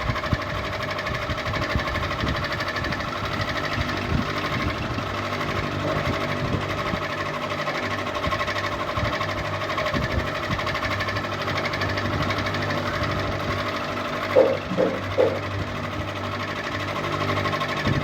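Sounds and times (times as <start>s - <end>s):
ceiling fan humming and whirring: 0.0s - 18.0s.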